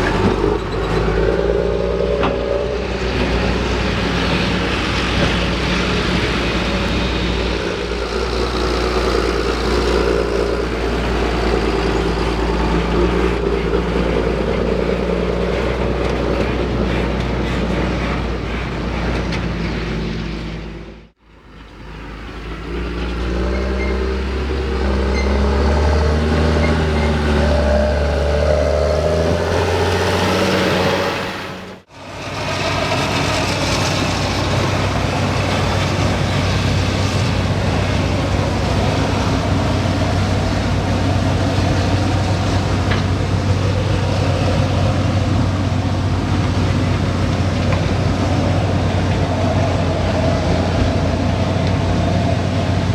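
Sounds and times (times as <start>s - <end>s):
heavy diesel engine under load: 0.0s - 52.9s.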